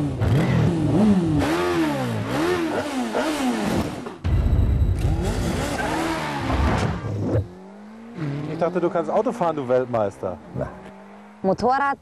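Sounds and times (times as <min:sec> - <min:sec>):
motorcycle engine revving: 0:00.0 - 0:04.3, 0:04.9 - 0:11.7.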